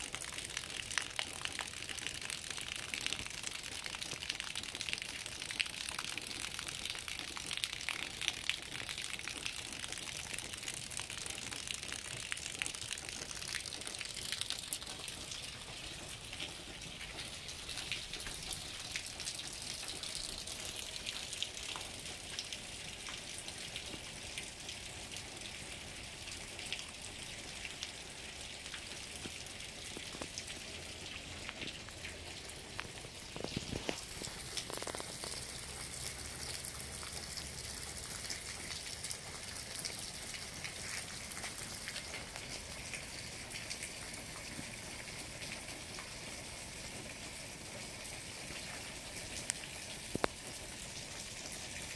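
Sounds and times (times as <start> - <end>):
raindrop clicks: 0.0 - 24.6, 26.3 - 44.6, 49.4 - 50.8
steady rain hiss: 0.0 - 51.9.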